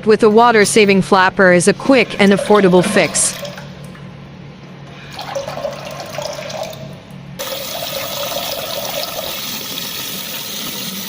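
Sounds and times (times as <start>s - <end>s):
water running: 0.1s - 11.0s.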